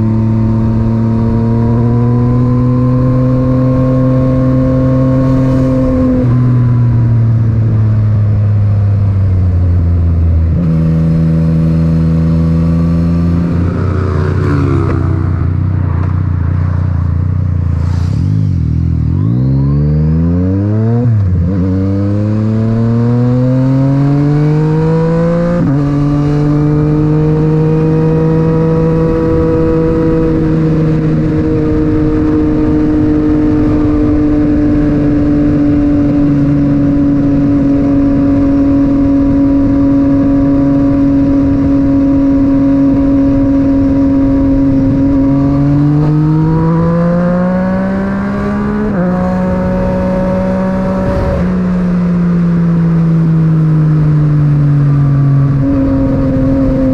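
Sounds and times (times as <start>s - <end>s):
wind noise: 0.0s - 19.8s, 20.4s - 56.9s
motorcycle engine accelerating: 0.0s - 56.9s.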